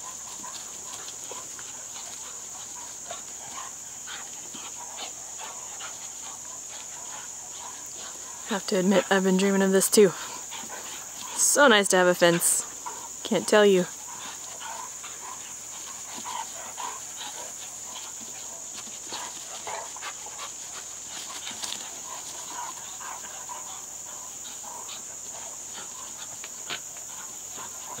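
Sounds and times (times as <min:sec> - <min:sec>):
dogs play noises: 0:00.0 - 0:28.0.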